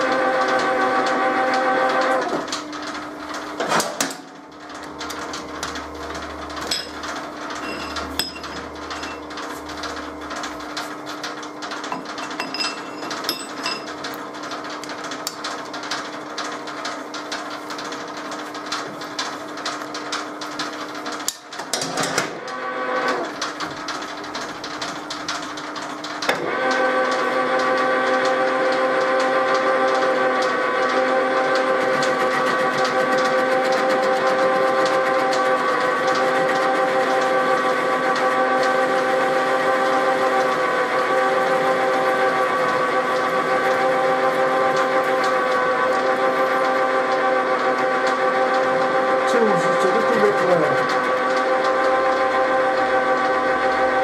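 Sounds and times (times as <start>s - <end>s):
metal lathe whine: 0.0s - 3.7s, 4.6s - 54.0s.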